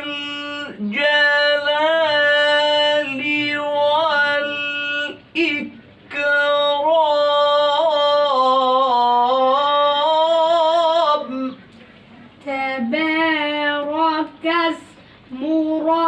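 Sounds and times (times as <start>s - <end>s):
boy chanting melodically: 0.0s - 16.0s.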